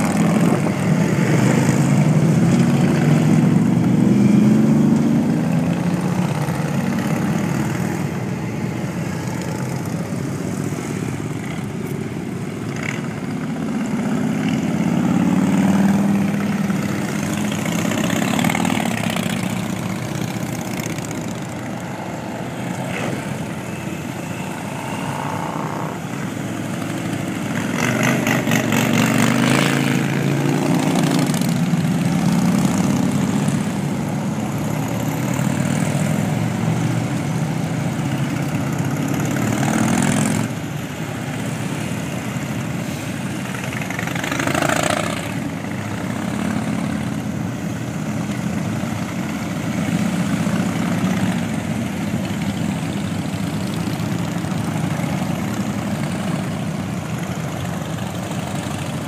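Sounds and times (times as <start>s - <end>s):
motorcycles riding past: 0.0s - 59.0s.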